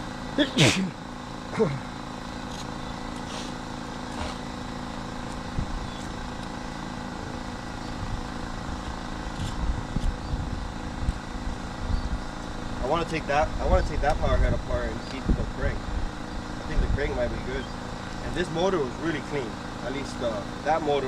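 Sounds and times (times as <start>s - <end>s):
outboard boat engine idling: 0.0s - 21.0s.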